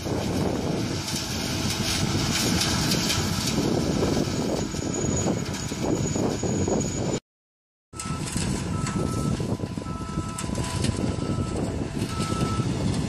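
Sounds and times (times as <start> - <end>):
combine harvester running: 0.0 - 7.2, 8.0 - 13.0.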